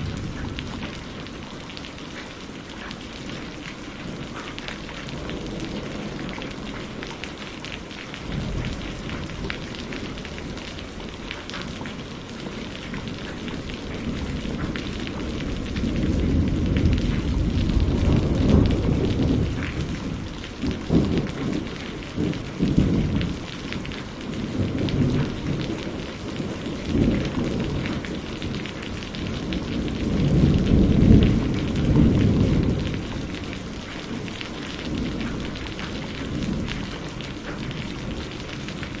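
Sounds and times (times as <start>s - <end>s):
rain pattering: 0.0s - 39.0s
thunder rumbling: 0.0s - 39.0s.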